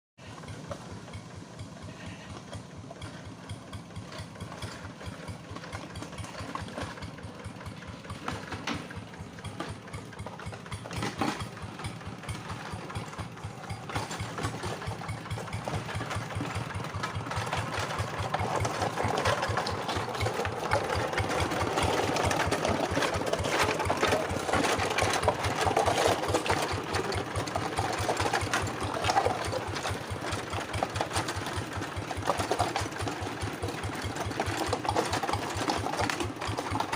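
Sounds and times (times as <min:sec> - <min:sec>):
diesel engine chugging: 0:00.2 - 0:36.9.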